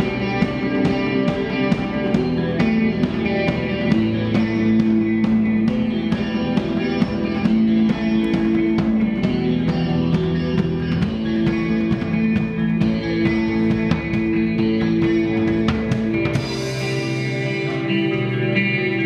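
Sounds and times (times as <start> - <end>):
drum kit steady beat: 0.0 - 19.0
electric guitars ringing: 0.0 - 19.0
rock band playing: 0.0 - 19.0.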